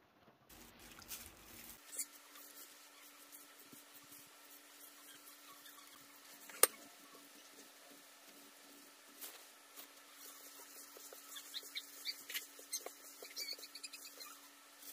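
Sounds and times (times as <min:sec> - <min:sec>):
faint steady hum: 0:00.0 - 0:14.9
rubbing of chicken in batter: 0:00.5 - 0:14.9
whisk mixing batter in glass bowl: 0:00.6 - 0:14.9.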